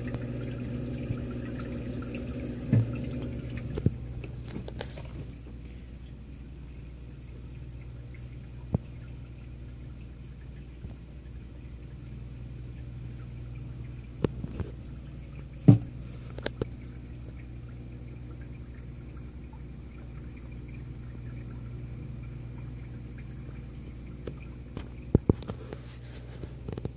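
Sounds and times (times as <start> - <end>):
aquarium equipment hum: 0.0 - 26.9
water trickling: 0.0 - 26.9.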